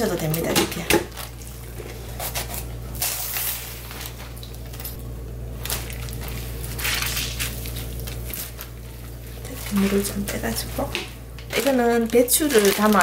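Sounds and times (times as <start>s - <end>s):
plastic bag crinkling: 0.0s - 13.0s
wet cabbage leaves rustling: 0.0s - 13.0s.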